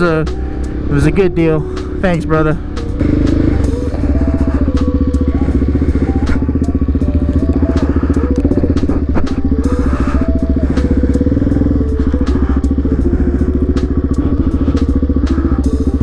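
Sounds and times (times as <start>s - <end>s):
motorcycle engine while riding: 0.0s - 16.0s.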